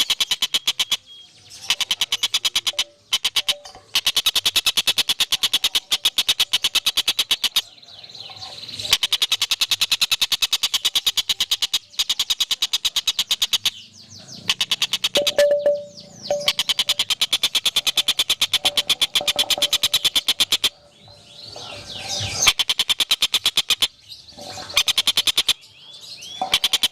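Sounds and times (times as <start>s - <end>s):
songbird trilling: 0.0s - 26.9s.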